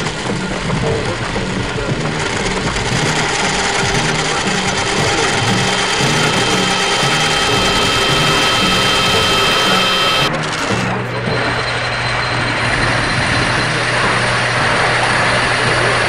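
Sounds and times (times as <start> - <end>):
dense machine-like noise: 0.0 - 16.0
repeating low pulse: 0.0 - 16.0
high whistling tones: 0.3 - 16.0.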